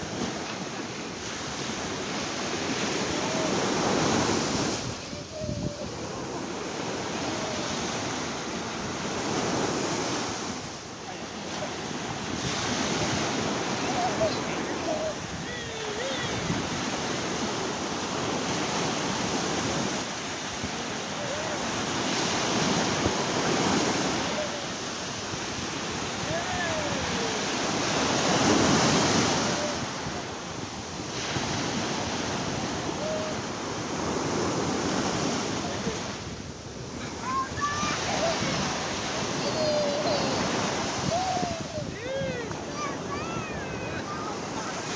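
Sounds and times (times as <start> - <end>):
sea waves washing onto shore: 0.0 - 44.9
wind on microphone: 0.0 - 44.9.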